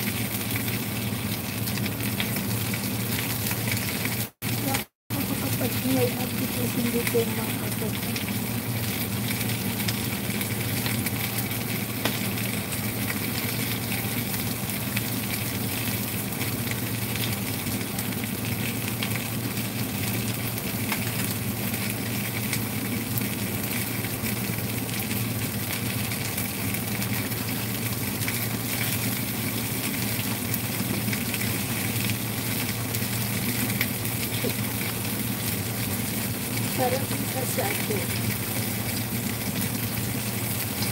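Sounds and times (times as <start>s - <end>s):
fish sizzling in pan: 0.0s - 40.9s.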